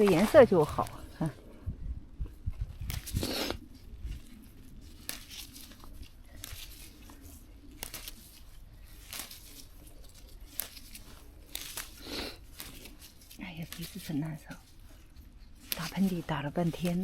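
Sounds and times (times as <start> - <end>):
plants rustling and tearing: 0.0 - 1.6, 2.2 - 17.0.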